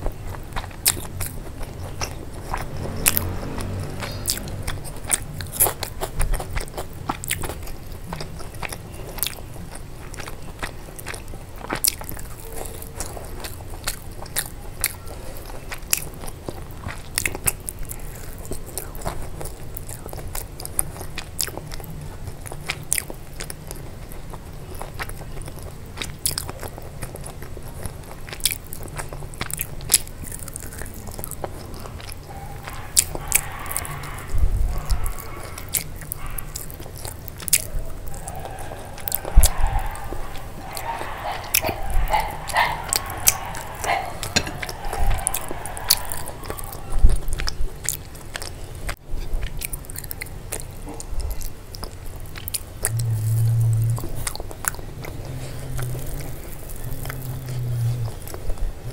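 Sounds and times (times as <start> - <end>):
person chewing crunchy food: 0.0 - 58.9.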